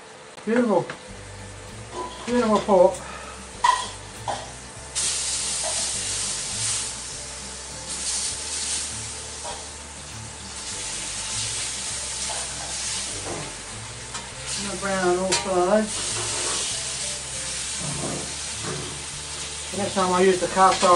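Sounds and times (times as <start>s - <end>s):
meat sizzling in a wok: 1.0s - 20.9s.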